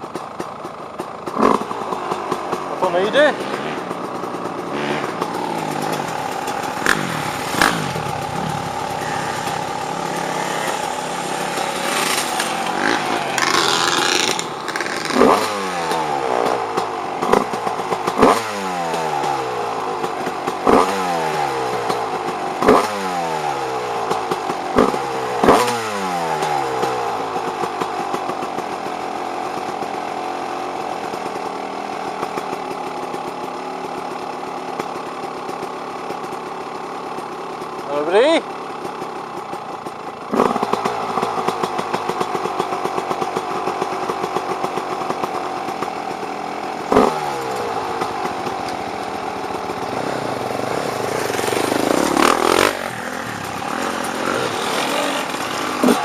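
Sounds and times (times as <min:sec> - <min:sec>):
dirt bike engine revving and idling: 0:00.0 - 0:56.0.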